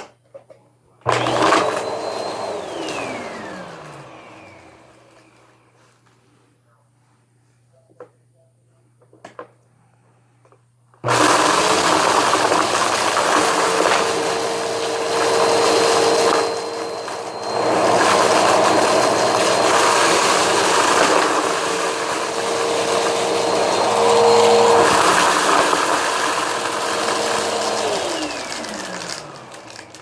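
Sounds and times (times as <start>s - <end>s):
vacuum cleaner running: 1.0s - 6.2s, 11.0s - 30.0s.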